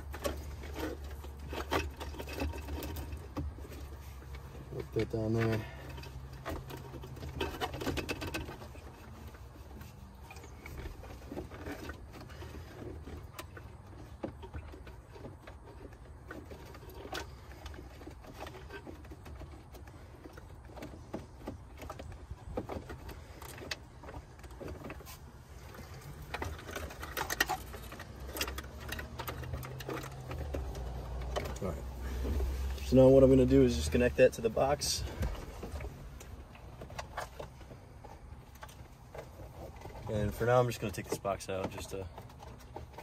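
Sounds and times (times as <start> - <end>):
plastic connectors clicking and rustling: 0.0 - 43.0.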